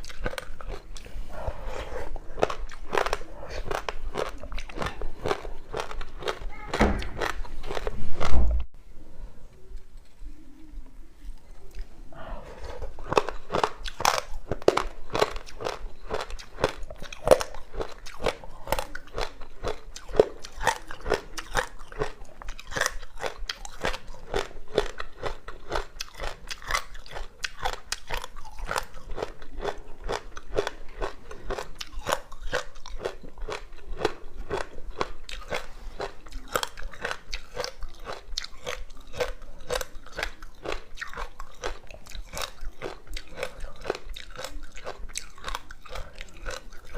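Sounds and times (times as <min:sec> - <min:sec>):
crunching frozen fruit: 0:00.0 - 0:08.4, 0:12.7 - 0:46.9.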